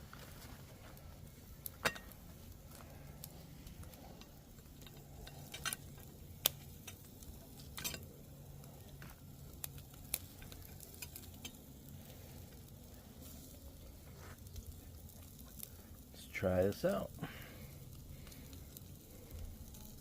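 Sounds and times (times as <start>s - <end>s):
steaks sizzling on a grill: 0.0s - 20.0s.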